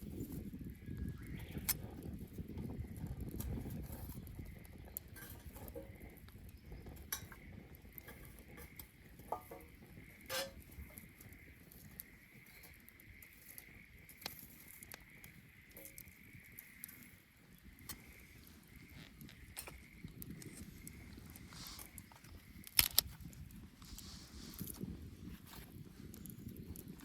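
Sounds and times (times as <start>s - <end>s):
bonfire crackling and popping: 0.0s - 27.0s
rustle of flame: 0.0s - 27.0s.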